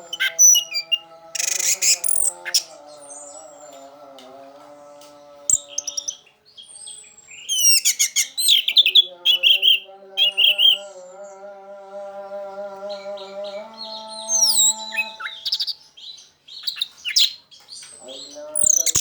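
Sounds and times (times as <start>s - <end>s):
thrush singing: 0.0s - 19.0s.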